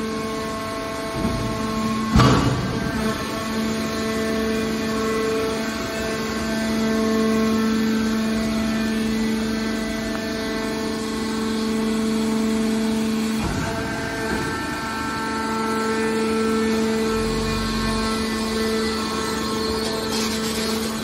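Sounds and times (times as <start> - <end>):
hydraulic pump motor humming: 0.0 - 21.0.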